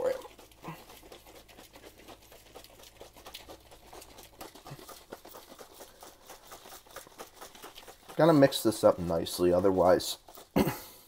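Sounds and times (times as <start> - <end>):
shaker cup sloshing and rattling: 0.0 - 11.0.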